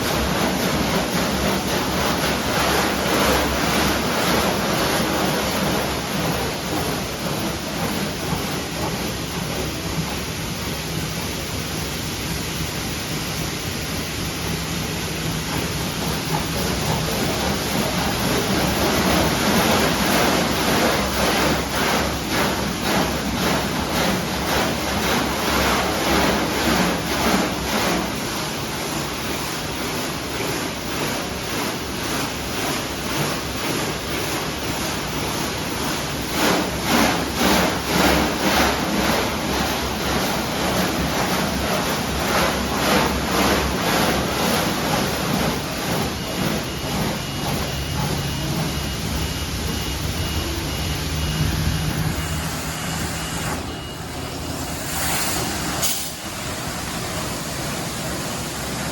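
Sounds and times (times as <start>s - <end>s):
car wash water spray: 0.0s - 58.9s.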